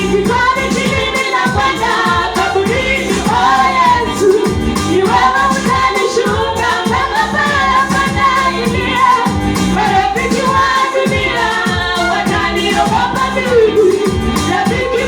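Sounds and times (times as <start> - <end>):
children's choir singing: 0.0 - 15.0
instrumental backing with beat: 0.0 - 15.0.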